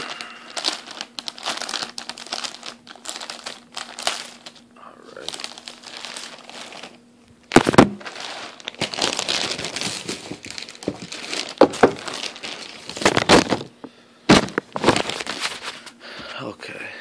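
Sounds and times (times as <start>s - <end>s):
plastic bag crinkling: 0.0s - 15.9s.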